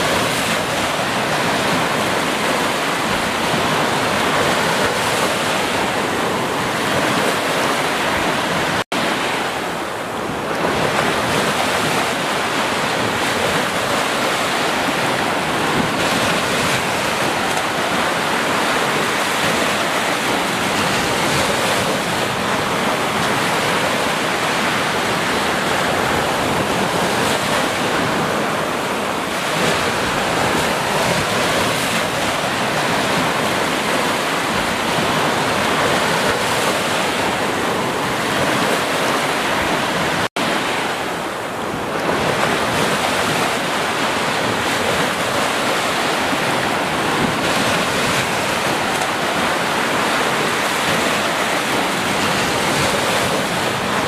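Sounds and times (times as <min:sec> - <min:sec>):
waves washing up a beach: 0:00.0 - 0:54.0.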